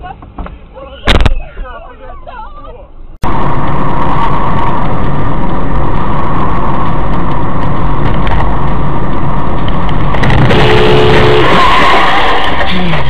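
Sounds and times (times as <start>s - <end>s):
car driving road noise: 0.0s - 13.0s.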